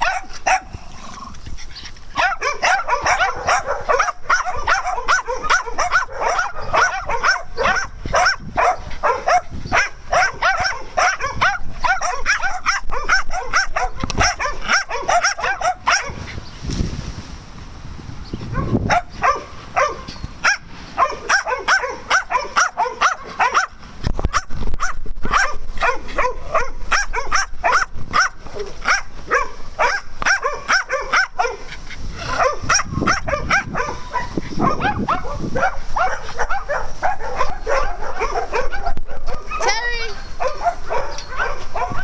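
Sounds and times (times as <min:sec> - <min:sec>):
small dogs barking: 0:00.0 - 0:01.3, 0:02.1 - 0:16.3, 0:18.5 - 0:42.0.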